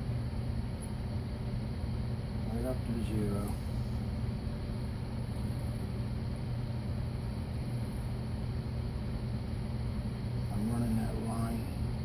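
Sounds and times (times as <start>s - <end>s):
low mechanical hum with hiss: 0.0s - 12.0s.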